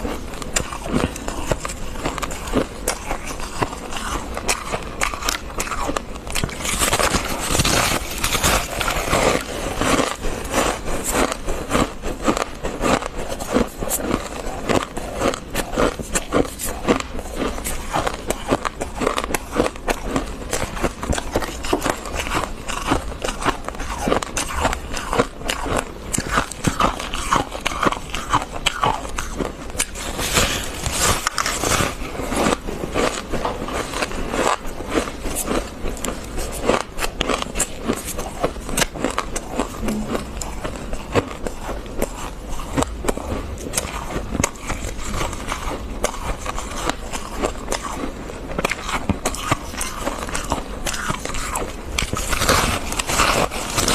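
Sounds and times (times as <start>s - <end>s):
frost being scraped and bitten: 0.0s - 53.9s.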